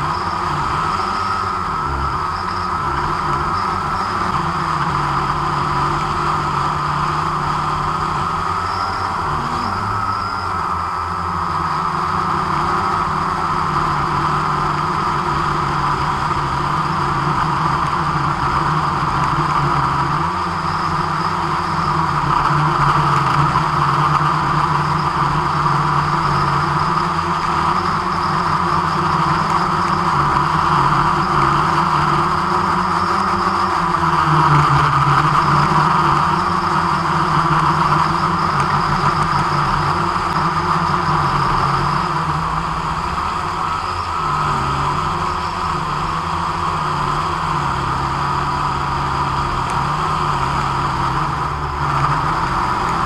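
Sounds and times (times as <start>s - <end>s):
drone motors buzzing whine: 0.0s - 53.0s.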